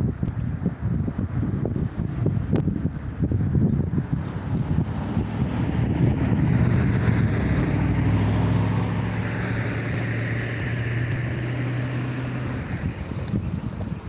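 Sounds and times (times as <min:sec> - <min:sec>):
engine hum: 0:00.0 - 0:14.0
rushing noise: 0:01.6 - 0:14.0.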